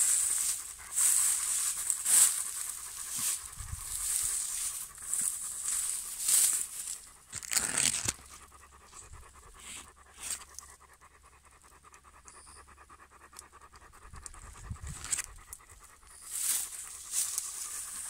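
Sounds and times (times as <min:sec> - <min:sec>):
large dog panting: 0:00.0 - 0:18.0.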